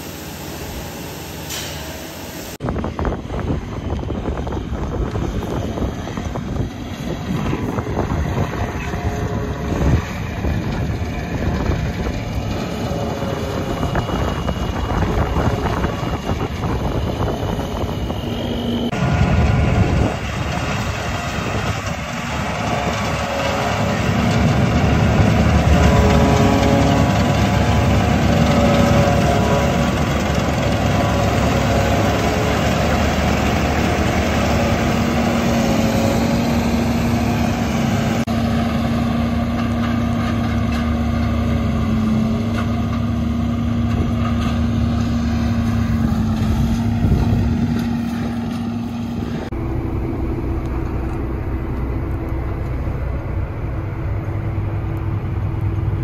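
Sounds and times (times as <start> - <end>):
tractor engine running: 2.2 - 56.0.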